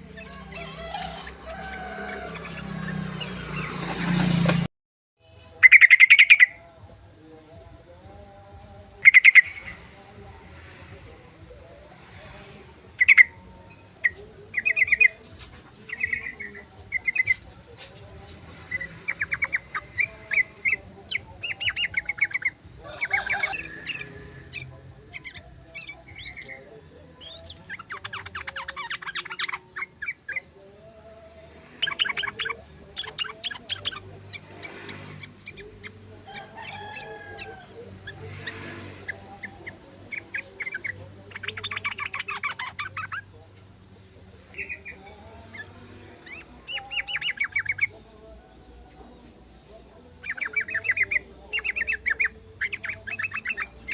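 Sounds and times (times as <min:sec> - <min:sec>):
bird singing chattering phrases: 0:05.4 - 0:10.4, 0:11.2 - 0:53.9.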